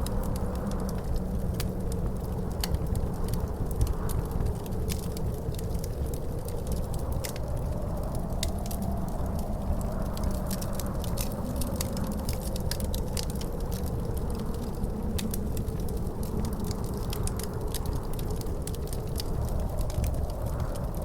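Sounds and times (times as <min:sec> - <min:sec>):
low wind rumble: 0:00.0 - 0:21.0
wood fire crackling: 0:00.0 - 0:21.0.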